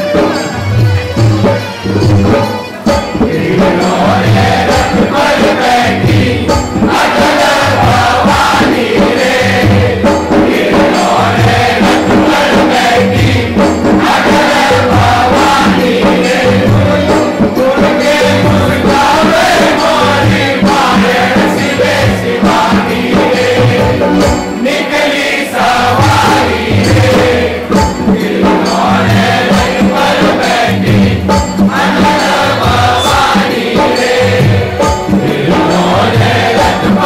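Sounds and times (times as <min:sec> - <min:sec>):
drum beat: 0:00.0 - 0:37.0
group singing in chorus: 0:02.8 - 0:37.0.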